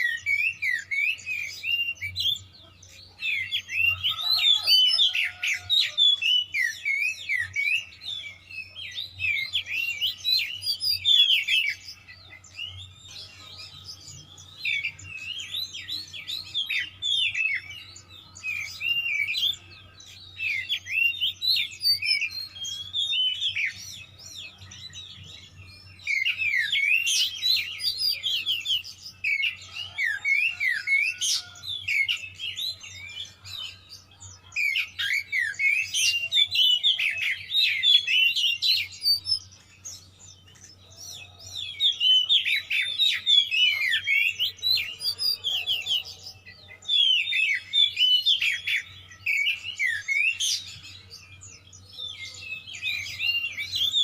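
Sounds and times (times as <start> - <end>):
magpie-robin singing whistled notes: 0.0 - 54.0.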